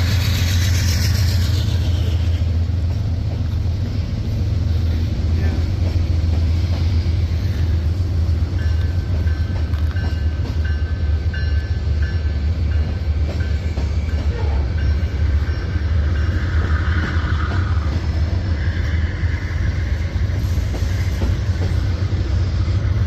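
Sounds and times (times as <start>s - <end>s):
freight cars rumbling on rails: 0.0s - 23.0s.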